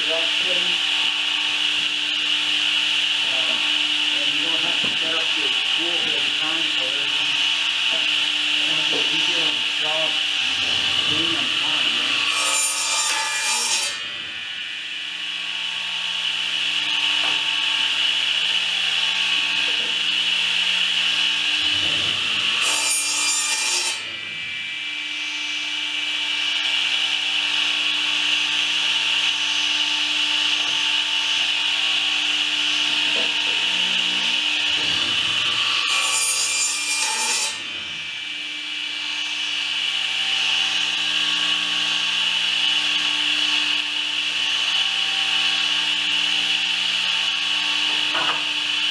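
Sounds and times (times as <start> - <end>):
power tool cutting wood: 0.0 - 48.9.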